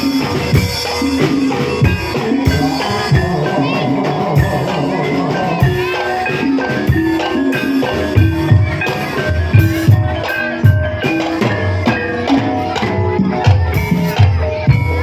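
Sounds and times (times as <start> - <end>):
gamelan tuned percussion: 0.0 - 15.0
hand drum beats: 0.0 - 15.0.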